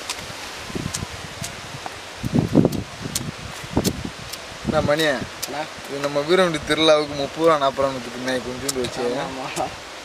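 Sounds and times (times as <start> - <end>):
leaves rustling: 0.0 - 10.0.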